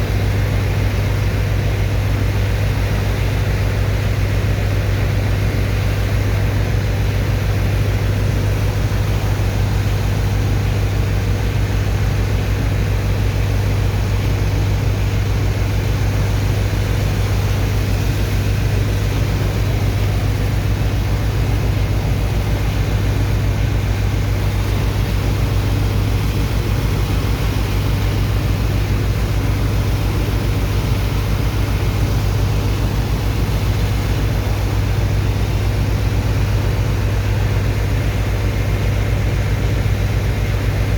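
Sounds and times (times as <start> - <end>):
diesel pump engine droning: 0.0 - 40.9.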